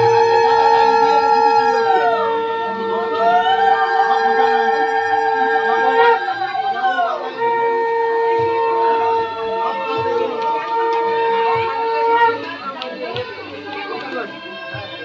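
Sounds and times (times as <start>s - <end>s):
conch shell low note: 0.0s - 13.2s
conch shell higher note: 0.0s - 15.0s.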